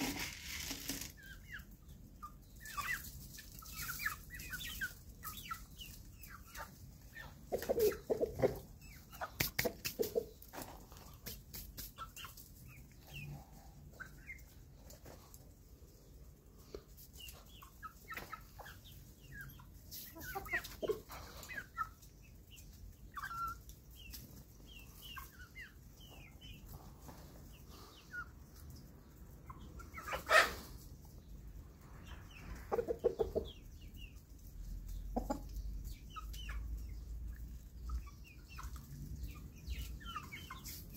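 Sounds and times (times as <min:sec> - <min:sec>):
chickens clucking: 0:00.0 - 0:40.9
chicks peeping: 0:00.0 - 0:40.9.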